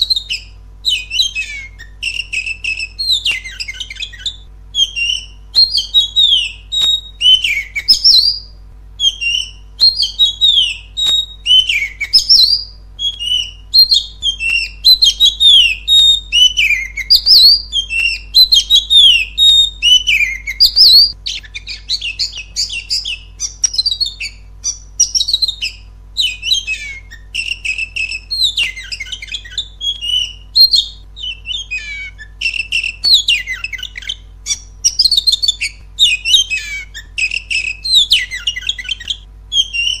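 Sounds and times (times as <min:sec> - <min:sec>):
bird singing whistled phrases: 0:00.0 - 0:40.0.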